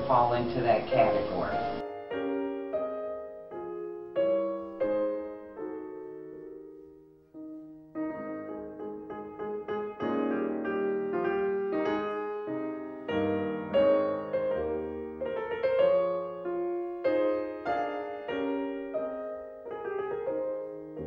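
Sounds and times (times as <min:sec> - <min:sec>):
piano notes and chords: 0:00.0 - 0:21.0.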